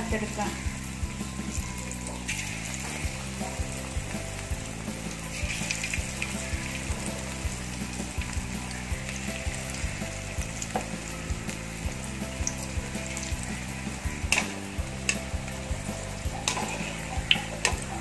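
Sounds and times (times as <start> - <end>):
deep-frying bubbling sizzle: 0.0 - 18.0
metal spoon stirring oil: 0.2 - 18.0.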